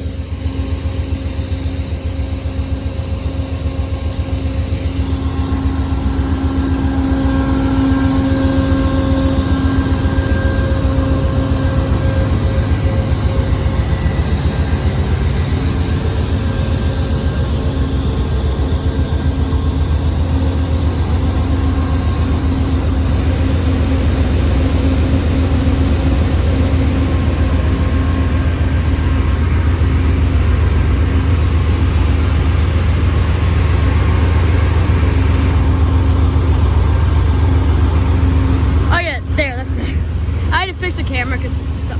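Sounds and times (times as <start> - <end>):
diesel locomotive engines droning: 0.0 - 41.9.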